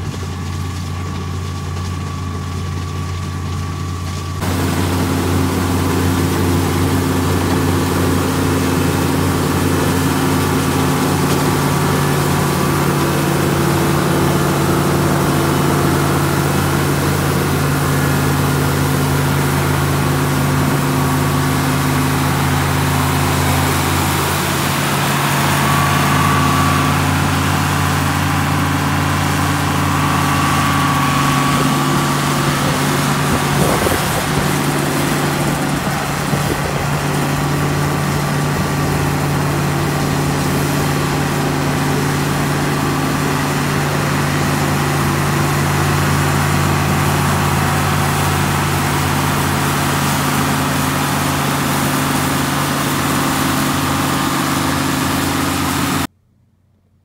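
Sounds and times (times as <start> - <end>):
combine harvester diesel drone: 0.0 - 56.1.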